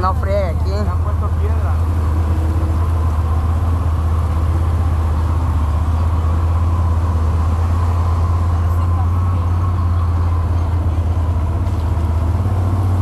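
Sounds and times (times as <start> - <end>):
quad bike engine droning: 0.0 - 13.0.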